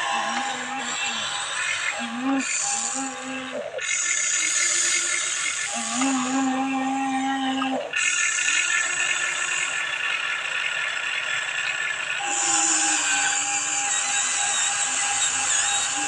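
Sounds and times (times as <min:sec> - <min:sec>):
toy excavator motors whining: 0:00.0 - 0:16.0.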